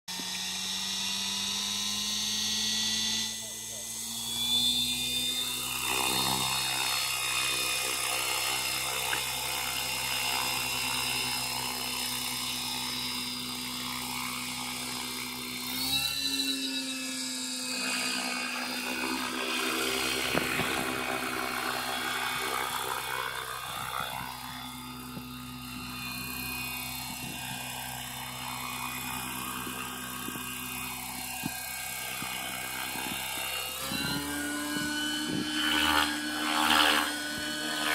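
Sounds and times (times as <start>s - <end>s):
helicopter rotor: 0.1s - 37.9s
rc helicopter motor whine: 0.1s - 37.9s.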